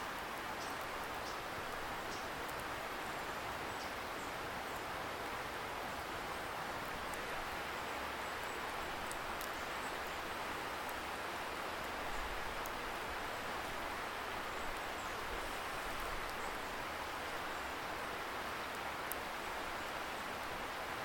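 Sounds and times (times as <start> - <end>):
campfire crackling: 0.0 - 4.0, 4.8 - 20.8.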